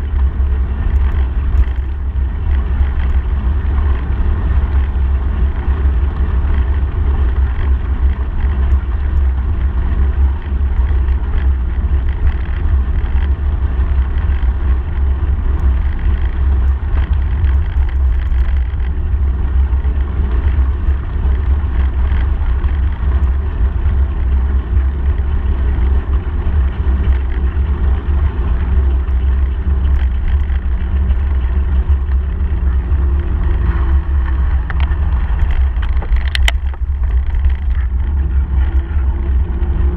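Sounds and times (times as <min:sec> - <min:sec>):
bicycle tyres rolling on gravel: 0:00.0 - 0:39.9
wind buffeting microphone: 0:00.0 - 0:39.9.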